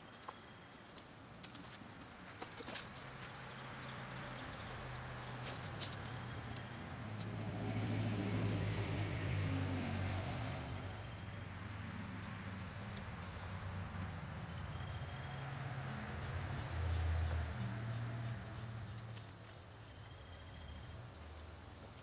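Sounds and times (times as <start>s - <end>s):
insects buzzing: 0.1s - 22.0s.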